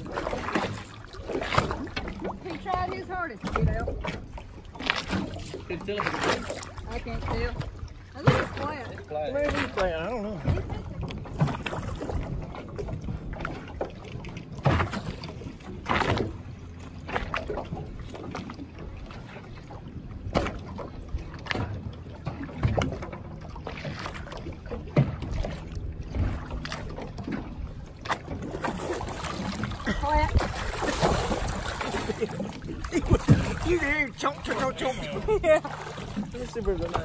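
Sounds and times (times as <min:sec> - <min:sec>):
people wading splashes: 0:00.0 - 0:37.0
water lapping and sloshing: 0:00.0 - 0:37.0.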